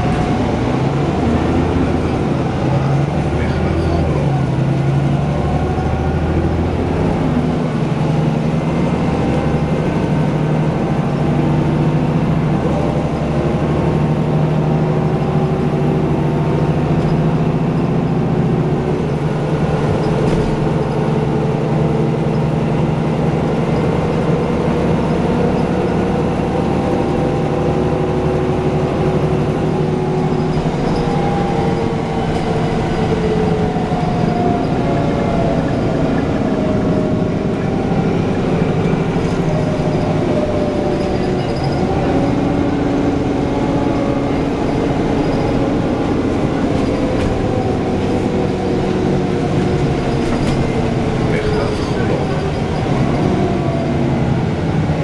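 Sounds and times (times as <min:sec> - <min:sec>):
bus engine hum: 0:00.0 - 0:55.0
road noise: 0:00.0 - 0:55.0.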